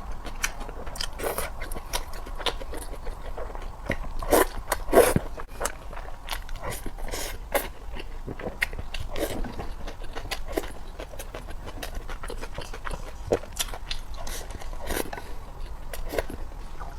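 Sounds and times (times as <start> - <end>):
person chewing and crunching: 0.0 - 16.9.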